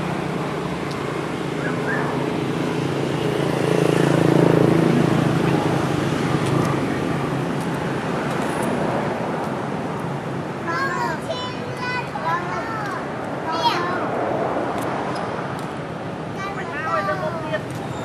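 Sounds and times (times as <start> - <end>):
low drone of vehicle engine: 0.0 - 18.0.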